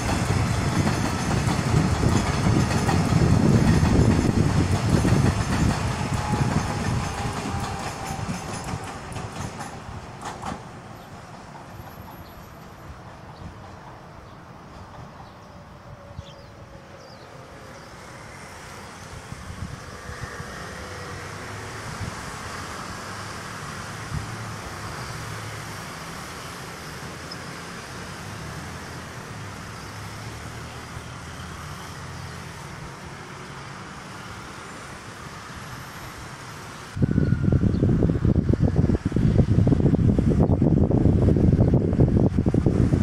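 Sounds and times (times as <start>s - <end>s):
traffic rumble: 0.0s - 43.0s.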